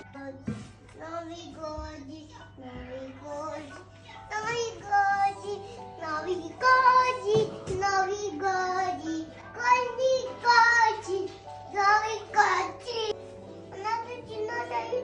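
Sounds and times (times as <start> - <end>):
child singing: 0.0 - 15.0
music: 0.0 - 15.0.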